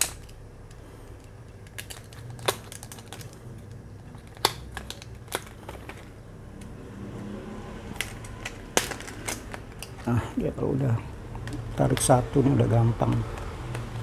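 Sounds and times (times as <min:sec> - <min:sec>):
plastic packaging clicks and snaps: 0:00.0 - 0:06.7, 0:08.0 - 0:10.2, 0:11.3 - 0:14.0.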